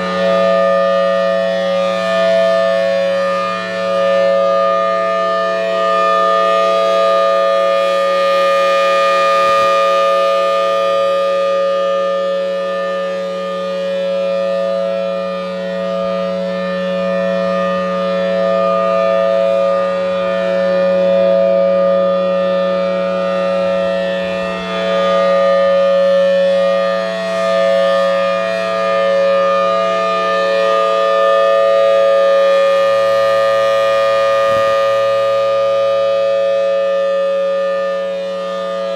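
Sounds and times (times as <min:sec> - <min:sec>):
civil defense siren: 0:00.0 - 0:38.9.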